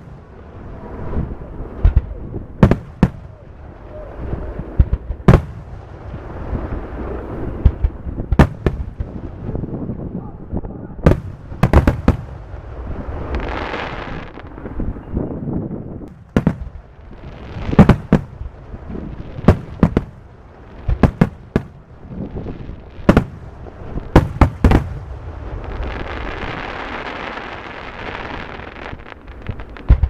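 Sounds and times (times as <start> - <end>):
fireworks hiss: 0.0 - 9.6, 11.1 - 15.0, 16.1 - 30.0
fireworks bangs: 0.0 - 30.0.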